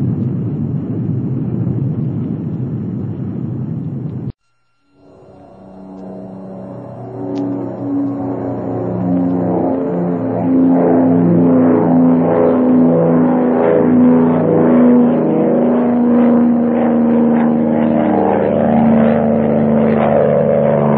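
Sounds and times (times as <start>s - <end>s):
piston aircraft engines droning: 0.0s - 20.9s.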